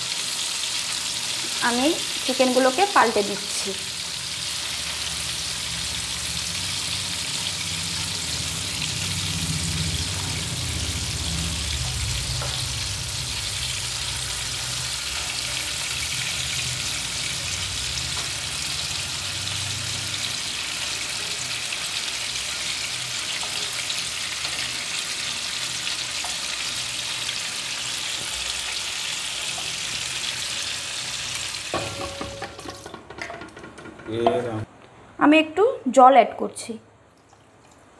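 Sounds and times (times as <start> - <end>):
chicken sizzling in frying pan: 0.0 - 32.9.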